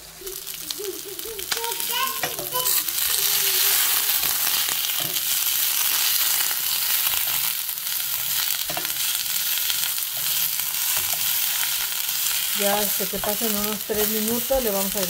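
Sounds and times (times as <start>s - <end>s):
vegetables sizzling in a pan: 0.0s - 15.0s
spatula stirring: 1.4s - 15.0s.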